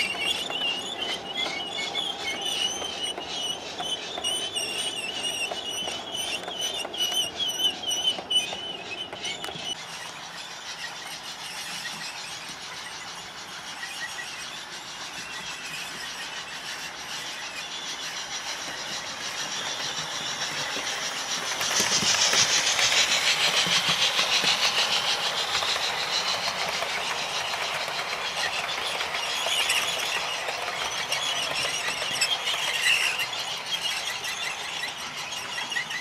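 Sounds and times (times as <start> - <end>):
model train motor whine: 0.0 - 36.0
wheels clicking over rails: 0.0 - 36.0.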